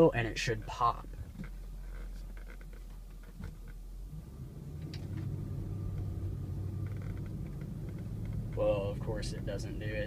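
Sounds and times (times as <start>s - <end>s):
engine hum inside vehicle cabin: 0.0s - 10.0s.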